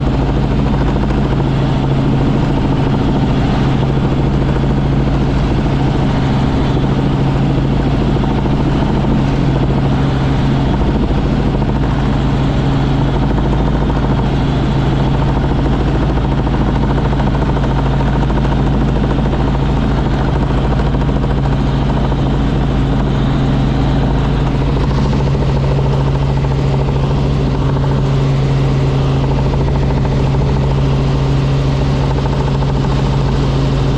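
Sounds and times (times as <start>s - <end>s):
helicopter engine and rotors drone: 0.0s - 33.9s.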